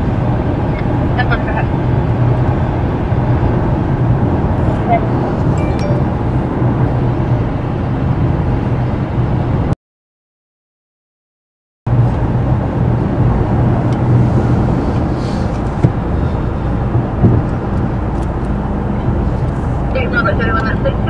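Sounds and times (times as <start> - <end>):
car and road rumble: 0.0 - 9.8, 11.9 - 21.0.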